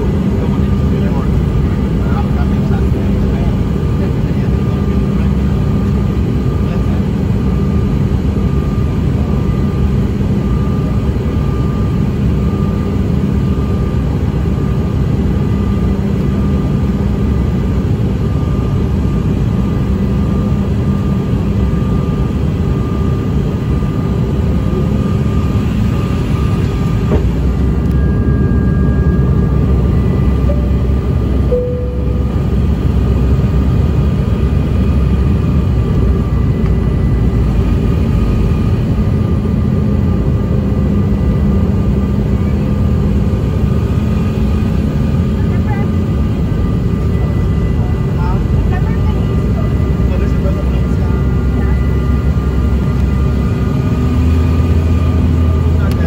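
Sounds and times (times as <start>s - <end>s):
jet engine drone in cabin: 0.0s - 56.0s
thin steady whine: 0.0s - 56.0s.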